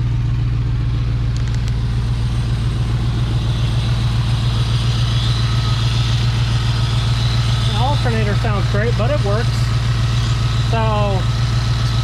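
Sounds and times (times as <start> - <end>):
engine idling: 0.0 - 12.0
faint high whine: 0.9 - 12.0.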